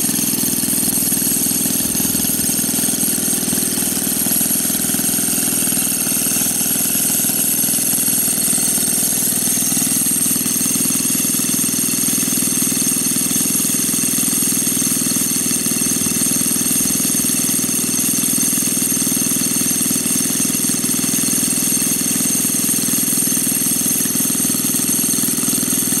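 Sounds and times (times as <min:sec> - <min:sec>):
small motorbike engine running: 0:00.0 - 0:26.0.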